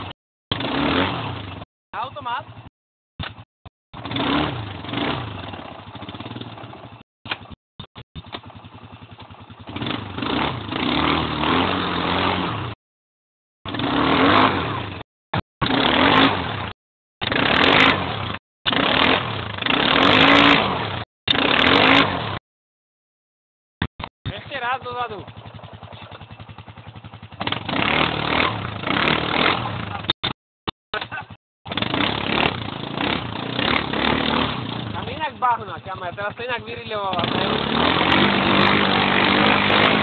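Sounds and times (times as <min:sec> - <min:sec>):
atv engine revving: 0:00.0 - 0:12.8, 0:13.7 - 0:22.4, 0:24.0 - 0:30.4, 0:31.0 - 0:40.0.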